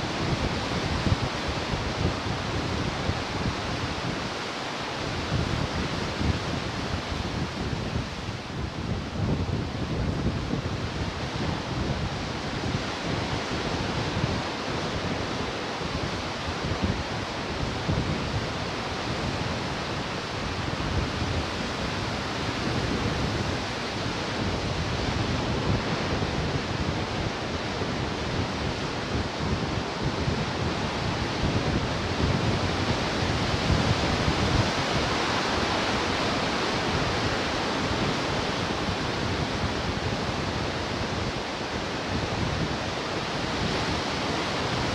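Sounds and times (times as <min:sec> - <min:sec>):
ocean surf washing ashore: 0:00.0 - 0:44.9.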